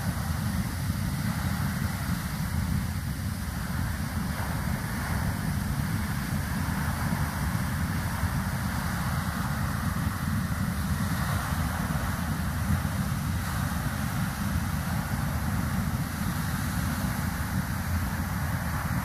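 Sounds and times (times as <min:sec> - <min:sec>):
geyser water jet rushing: 0:00.0 - 0:19.0.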